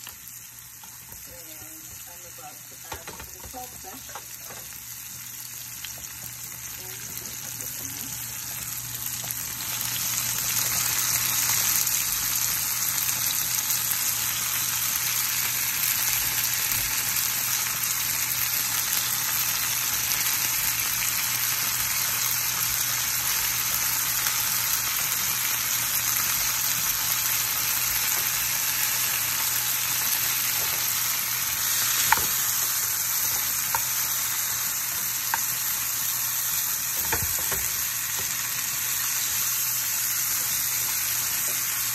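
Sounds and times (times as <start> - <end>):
food sizzling in oil: 0.0 - 41.9.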